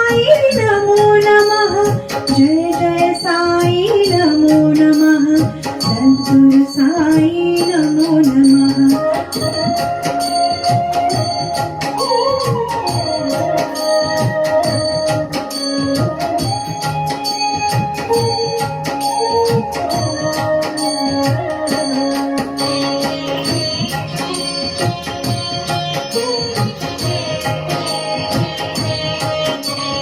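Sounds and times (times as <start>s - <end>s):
percussion beat: 0.0s - 30.0s
organ-like keyboard melody: 4.5s - 30.0s.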